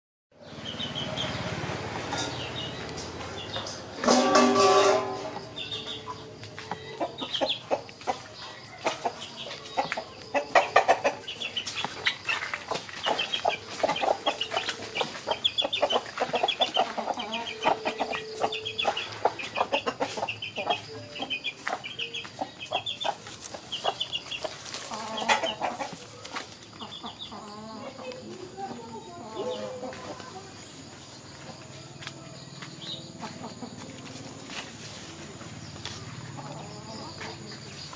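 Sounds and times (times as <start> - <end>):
chickens clucking: 0.4 - 37.9.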